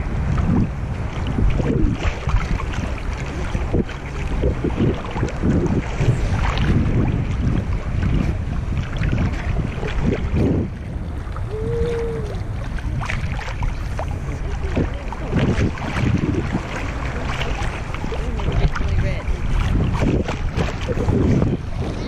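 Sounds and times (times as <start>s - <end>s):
short splashes: 0.0s - 22.0s
water lapping against inflatable tube: 0.0s - 22.0s
wind noise on microphone: 0.0s - 22.0s.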